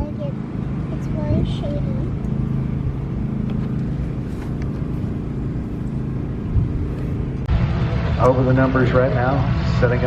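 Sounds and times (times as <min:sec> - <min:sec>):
low engine drone: 0:00.0 - 0:10.0.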